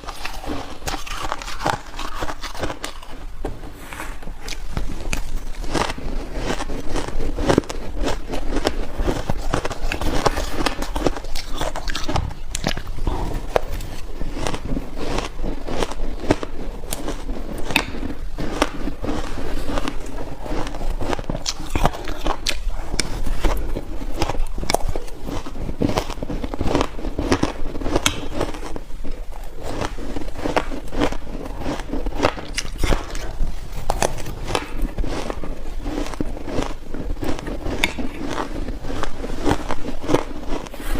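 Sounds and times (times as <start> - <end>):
crunching frost ice: 0.0 - 3.5, 4.4 - 40.9.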